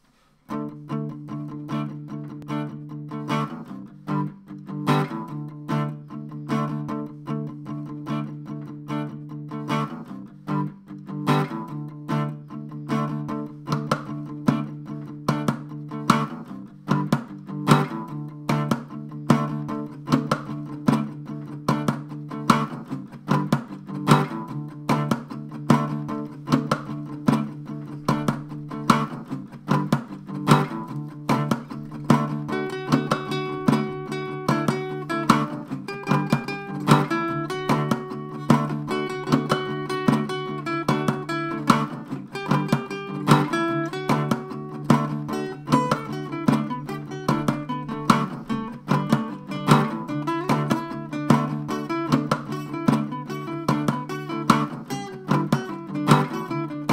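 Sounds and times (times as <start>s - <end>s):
acoustic guitar strumming: 0.5s - 56.9s.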